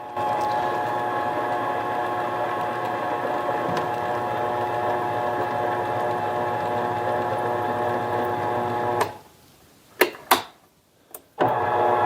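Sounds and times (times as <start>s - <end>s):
lathe motor whining: 0.0s - 9.2s, 11.4s - 12.0s.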